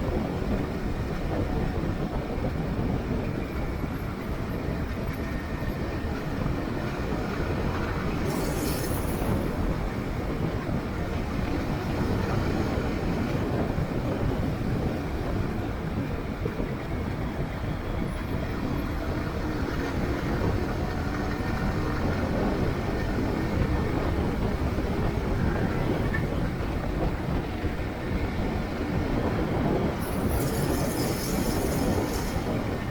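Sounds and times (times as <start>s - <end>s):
moving vehicle rumble: 0.0s - 32.9s.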